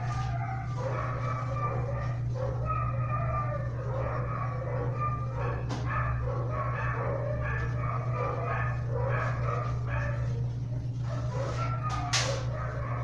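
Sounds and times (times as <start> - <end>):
dogs barking and whining: 0.0 - 13.0.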